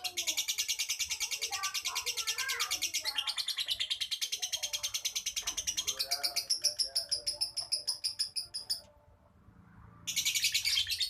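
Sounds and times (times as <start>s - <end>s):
lovebird chirping: 0.0s - 9.1s, 10.0s - 11.0s.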